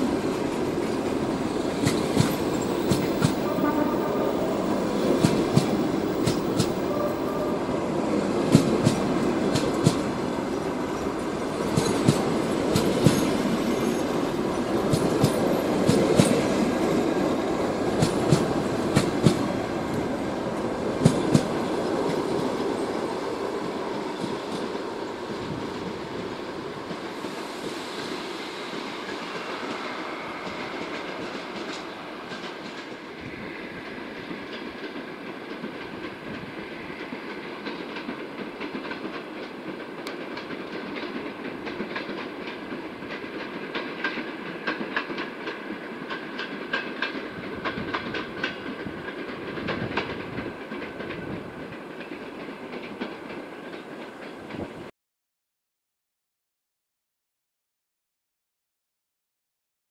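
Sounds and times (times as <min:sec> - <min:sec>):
train wheels clicking over rail joints: 0:00.0 - 0:03.6, 0:04.6 - 0:06.9, 0:08.0 - 0:25.6, 0:26.8 - 0:54.8.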